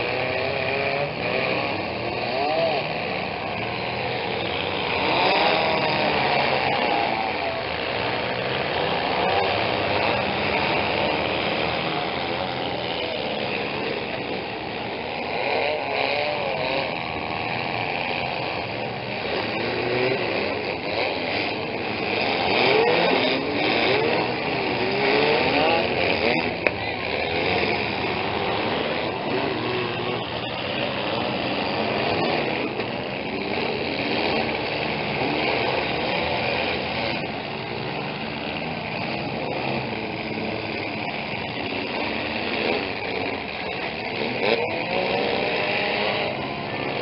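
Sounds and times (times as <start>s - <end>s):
car engines revving: 0.0s - 47.0s.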